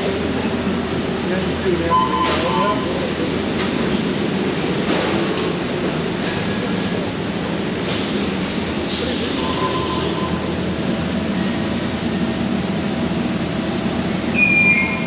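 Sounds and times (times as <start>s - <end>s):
factory machinery din: 0.0s - 15.0s.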